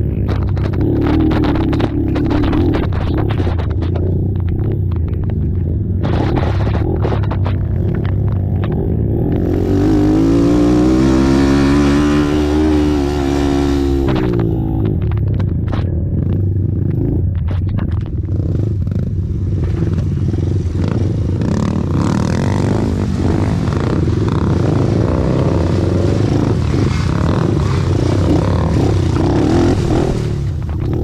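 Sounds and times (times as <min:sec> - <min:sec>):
racing atv engines: 0:00.0 - 0:31.0.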